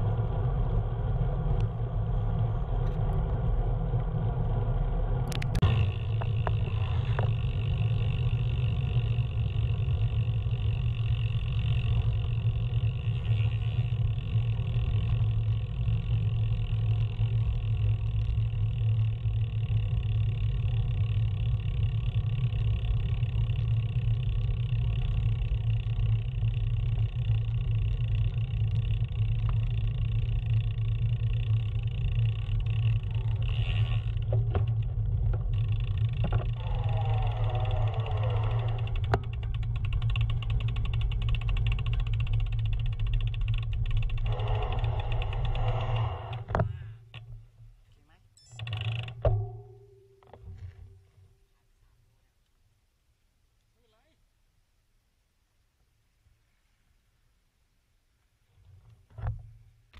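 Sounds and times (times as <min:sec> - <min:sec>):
vehicle rumbling on the move: 0:00.0 - 0:51.7.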